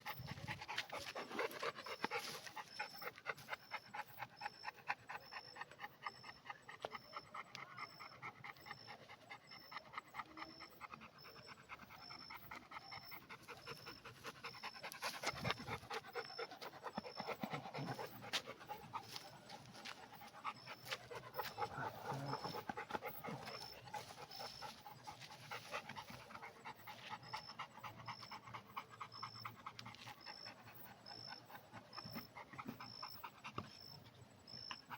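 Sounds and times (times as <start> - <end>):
dog panting: 0.0 - 34.9.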